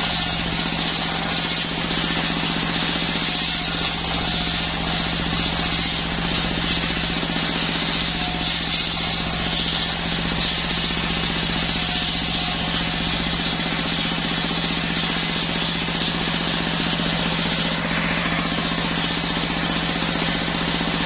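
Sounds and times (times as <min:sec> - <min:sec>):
circular saw running: 0:00.0 - 0:21.0.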